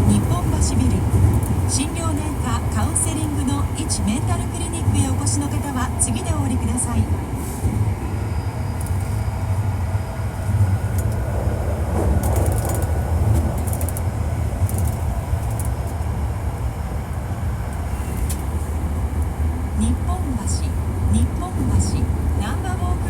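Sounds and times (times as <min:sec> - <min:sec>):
train wheels and motors rumbling: 0:00.0 - 0:23.0.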